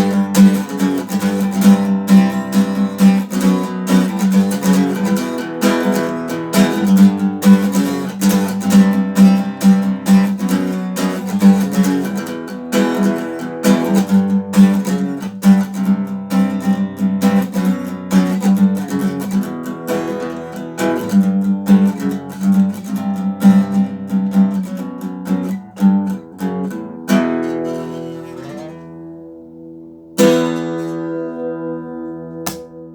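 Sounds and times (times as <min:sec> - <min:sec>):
acoustic guitar strumming: 0:00.0 - 0:32.9.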